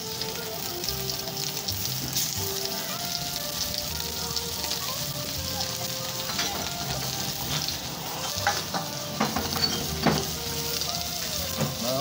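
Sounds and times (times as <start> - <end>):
seafood sizzling in a frying pan: 0.0 - 12.0.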